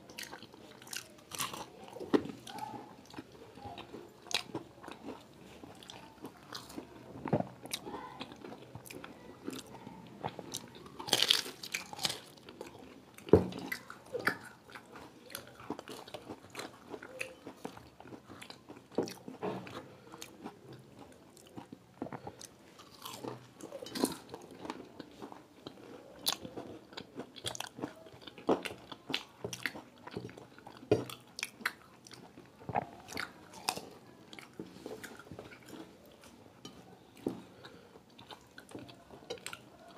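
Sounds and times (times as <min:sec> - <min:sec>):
people crunching and chewing pastry: 0:00.0 - 0:39.9.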